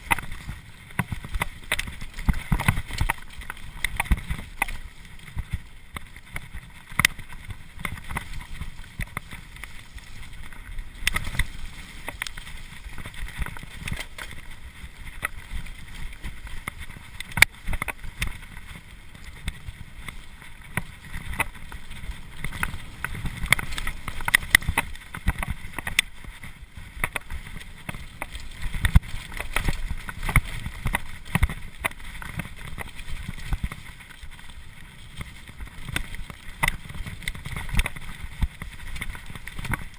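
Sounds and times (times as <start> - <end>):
bike rattling over bumps: 0.0 - 39.9
bike tyres rolling on dirt: 0.0 - 39.9
wind rumbling on microphone: 0.0 - 39.9.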